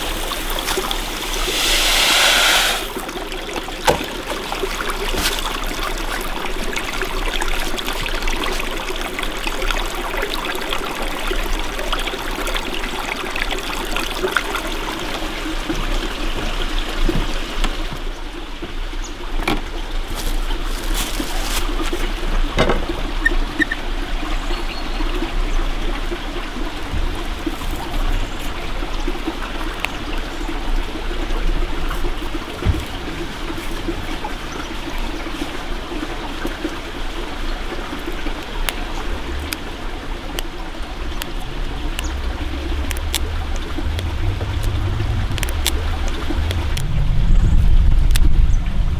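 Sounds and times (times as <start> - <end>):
stream flowing over rocks: 0.0 - 48.9.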